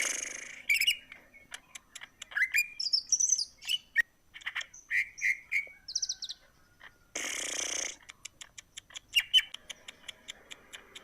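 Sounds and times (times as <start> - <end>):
buzzy bird trill: 0.0 - 10.2
songbird singing: 0.0 - 11.0.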